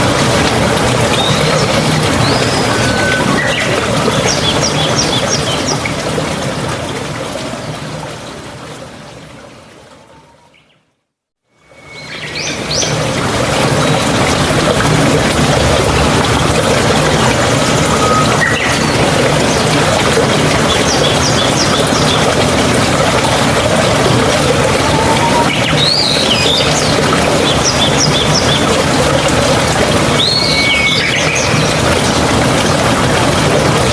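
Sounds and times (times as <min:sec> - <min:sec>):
stream water trickling: 0:00.0 - 0:10.8, 0:11.5 - 0:33.9.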